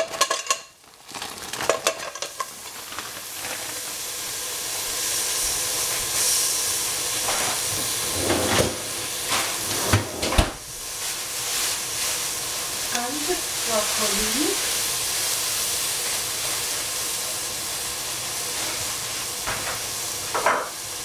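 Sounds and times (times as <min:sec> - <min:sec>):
hot pot hissing and sizzling: 0:00.0 - 0:21.0.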